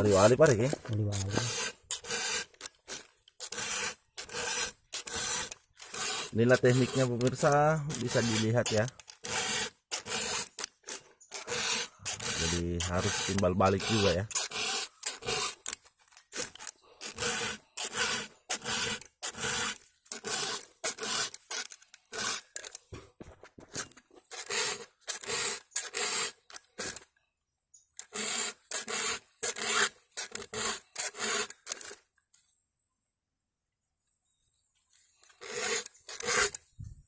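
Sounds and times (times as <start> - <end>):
file rasping on chainsaw chain: 0.0 - 22.9, 23.6 - 27.1, 28.0 - 32.0, 35.2 - 36.7.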